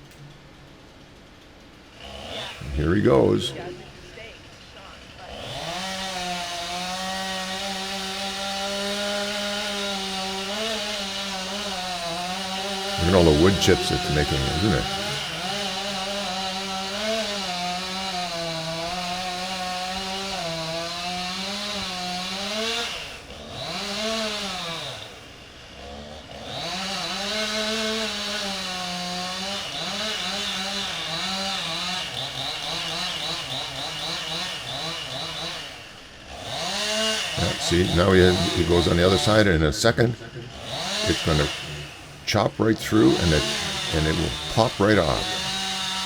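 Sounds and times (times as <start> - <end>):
chainsaw cutting wood: 1.8 - 46.0.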